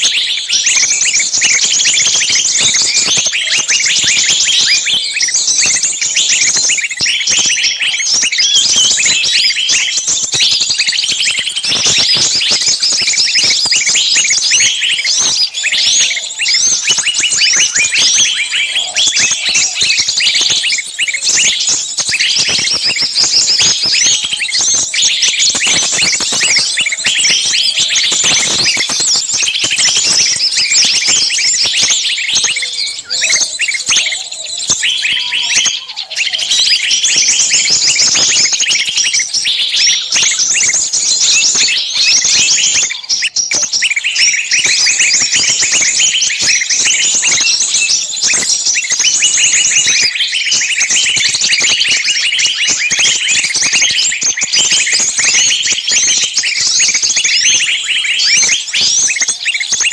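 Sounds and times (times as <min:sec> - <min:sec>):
flock of birds chirping: 0:00.0 - 0:59.9.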